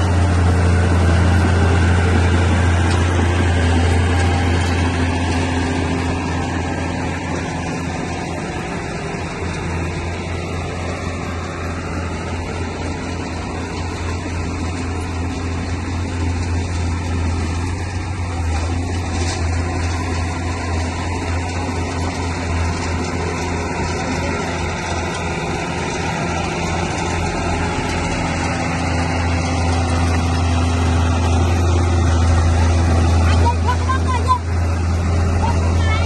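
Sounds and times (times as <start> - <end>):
bulldozer diesel engine droning: 0.0 - 36.0.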